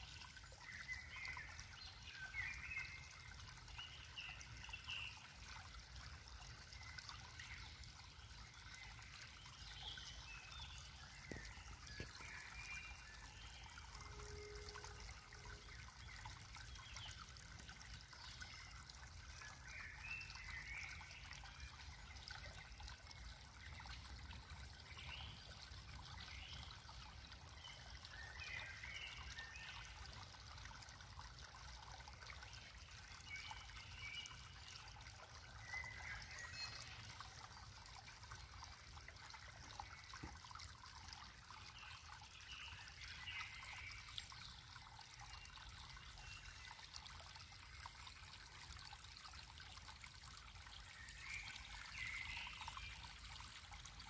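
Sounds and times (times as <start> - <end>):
water gurgling: 0.0 - 54.0
water trickling: 0.0 - 54.0.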